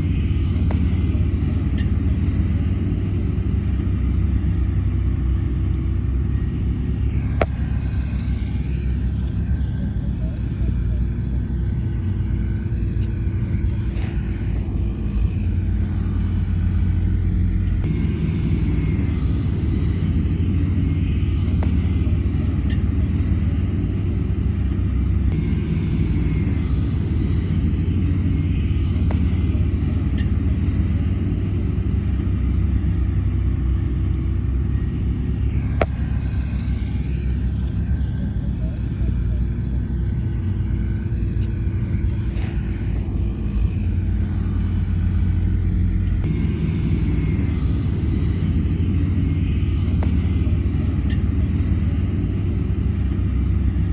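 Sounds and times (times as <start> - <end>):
diesel engine deep rumble: 0.0 - 53.9.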